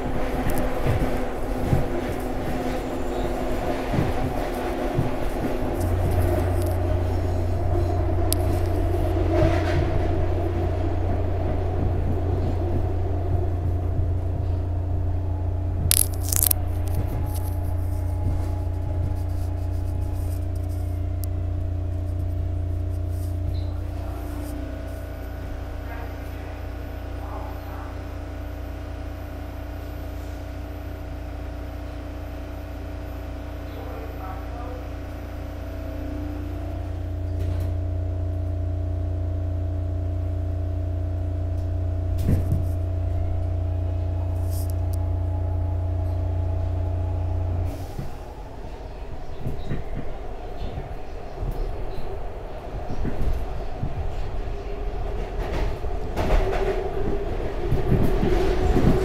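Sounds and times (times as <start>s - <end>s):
light steady whine: 0.0s - 59.0s
train motors humming: 0.0s - 59.0s.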